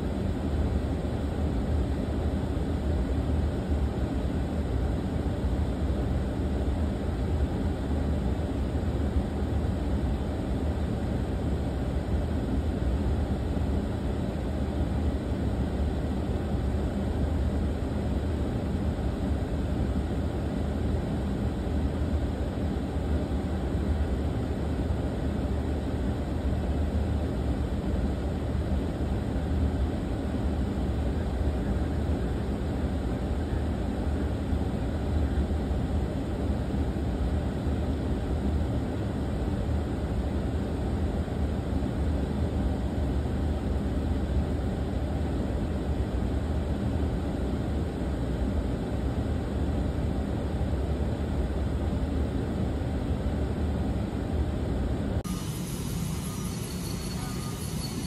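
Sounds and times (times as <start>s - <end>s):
low hum and hiss: 0.0s - 58.0s.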